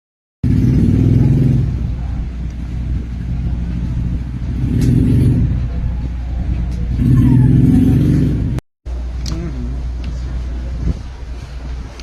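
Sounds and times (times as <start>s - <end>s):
vehicle engine rumbling: 0.4s - 12.0s.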